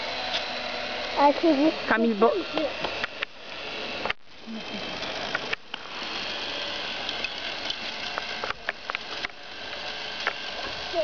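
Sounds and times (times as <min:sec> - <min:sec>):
toy motor and gears whirring: 0:00.0 - 0:11.0.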